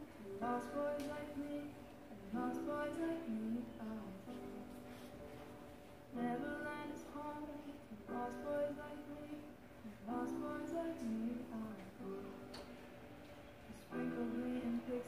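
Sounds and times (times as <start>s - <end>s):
woman singing a slow ballad: 0.0s - 4.8s, 6.1s - 12.7s, 13.7s - 15.0s.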